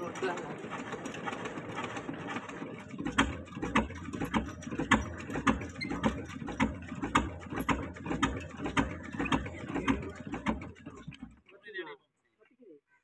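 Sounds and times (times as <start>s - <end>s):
diesel engine knocking slowly: 0.0s - 11.8s.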